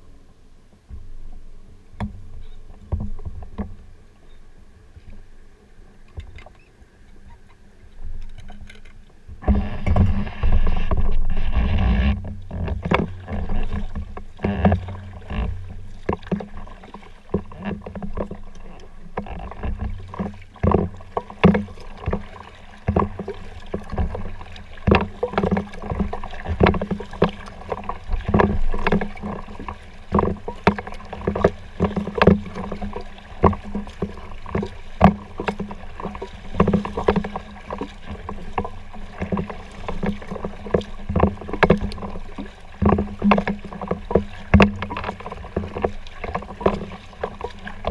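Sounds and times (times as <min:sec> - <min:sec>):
paddle splashing in water: 0:00.0 - 0:47.9.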